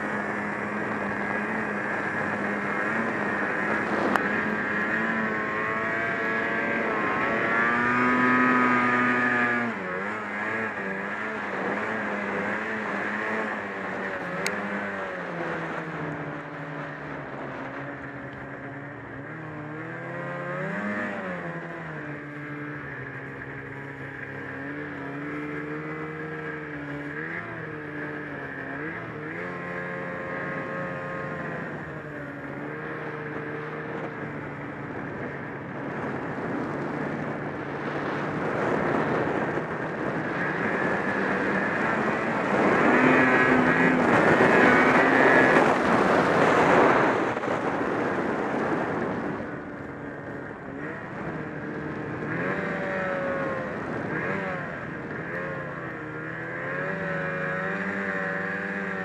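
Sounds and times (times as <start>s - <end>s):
snowmobile engine under throttle: 0.0s - 59.0s.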